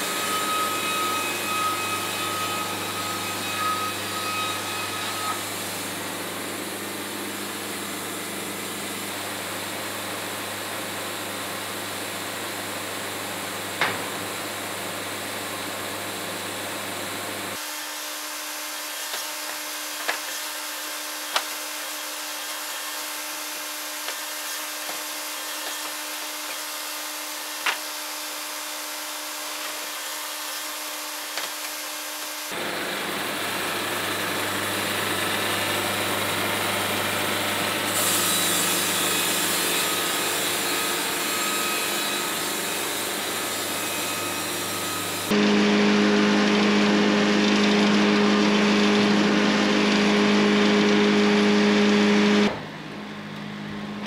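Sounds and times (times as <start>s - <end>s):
band sawmill cutting wood: 0.0s - 10.4s, 17.6s - 52.7s.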